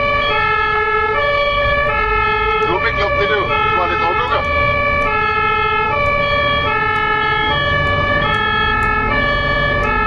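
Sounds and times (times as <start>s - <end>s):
rumble of road traffic: 0.0s - 10.0s
two-tone ambulance siren: 0.0s - 10.0s.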